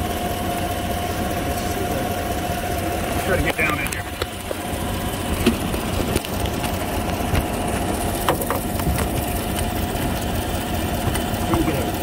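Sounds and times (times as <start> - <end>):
car engine idling: 0.0 - 12.0
exhaust leak ticking: 0.0 - 12.0.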